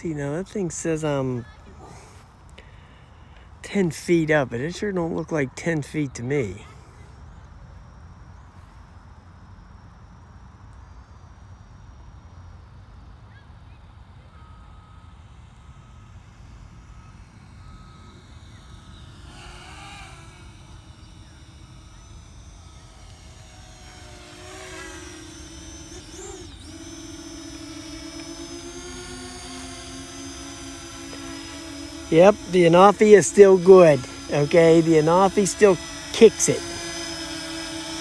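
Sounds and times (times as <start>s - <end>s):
quadcopter propeller whine: 0.0s - 8.5s, 13.9s - 38.0s.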